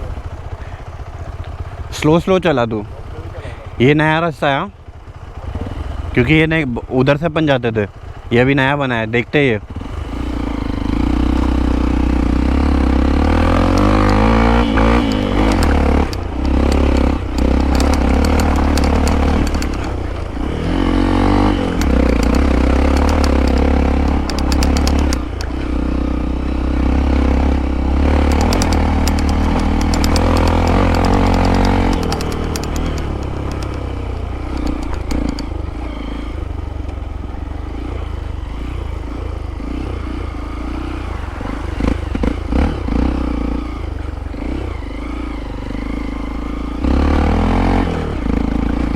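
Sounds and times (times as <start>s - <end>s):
motorcycle rattling over bumps: 0.0s - 48.9s
motorcycle engine revving: 4.8s - 7.0s, 9.4s - 48.9s.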